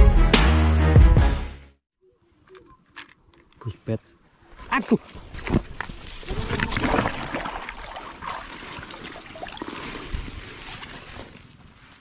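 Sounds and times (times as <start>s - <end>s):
grass and clothing rustling: 2.0s - 12.0s.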